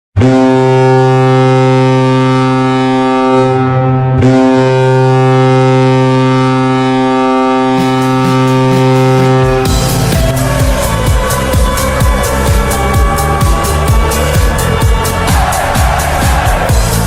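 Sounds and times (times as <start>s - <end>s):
deep arena goal horn: 0.2s - 17.0s.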